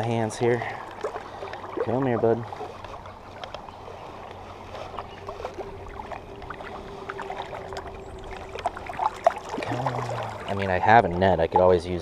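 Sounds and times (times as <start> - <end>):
small splashes and drips: 0.0 - 10.8
creek water rushing: 0.0 - 12.0.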